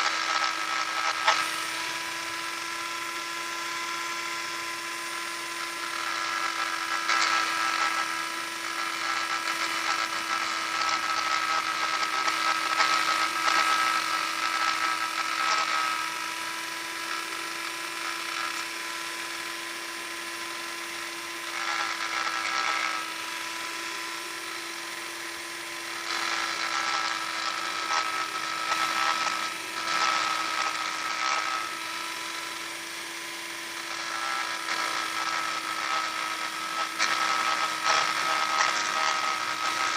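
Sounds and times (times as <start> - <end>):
electric sander motor whine: 0.0 - 39.9
gritty abrasive sanding noise: 0.0 - 39.9.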